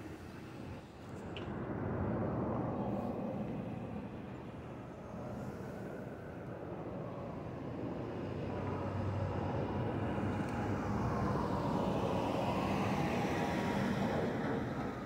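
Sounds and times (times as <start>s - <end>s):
jet airliner engine roar: 0.0s - 15.0s.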